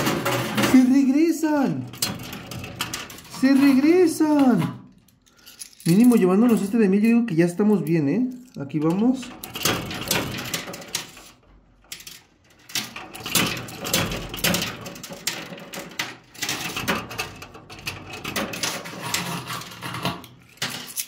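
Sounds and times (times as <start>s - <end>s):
coins clinking and clattering: 1.9s - 21.0s.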